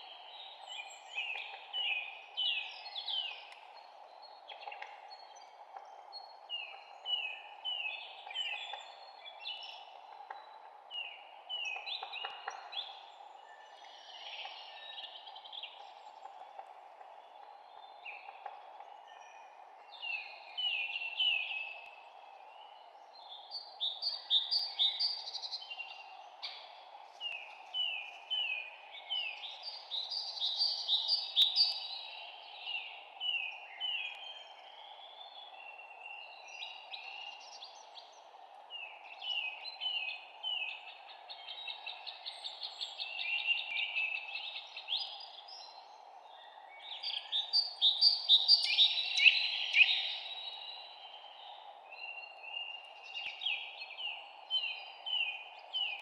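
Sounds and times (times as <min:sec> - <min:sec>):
low background hiss: 0:00.0 - 0:56.0
songbirds chirping: 0:00.0 - 0:56.0.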